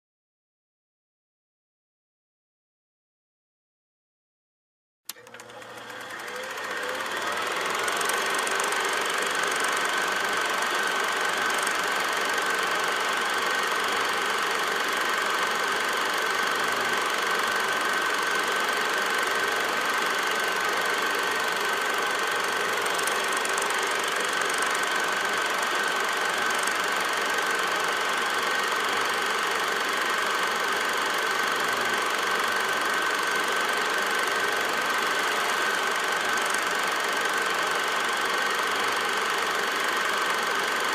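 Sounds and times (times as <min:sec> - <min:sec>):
film projector running: 0:05.1 - 0:40.9.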